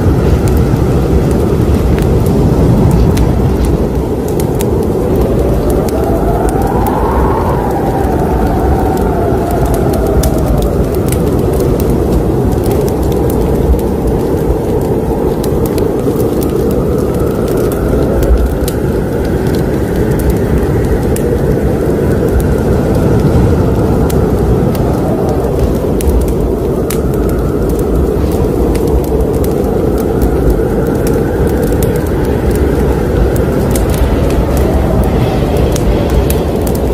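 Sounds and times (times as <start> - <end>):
fire crackling and popping: 0.0 - 36.9
fire roaring: 0.0 - 36.9.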